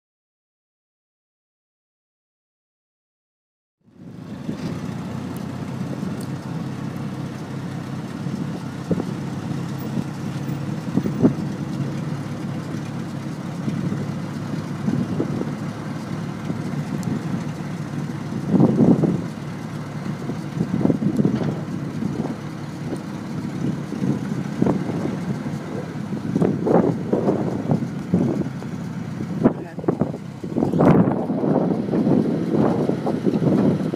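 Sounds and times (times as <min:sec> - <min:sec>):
forklift engine idling: 0:03.9 - 0:33.9.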